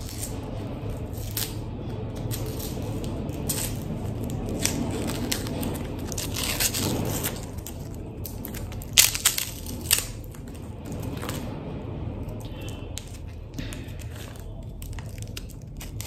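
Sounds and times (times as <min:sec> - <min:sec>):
chocolate wrapper crinkling and tearing: 0:02.2 - 0:11.5, 0:12.2 - 0:16.0.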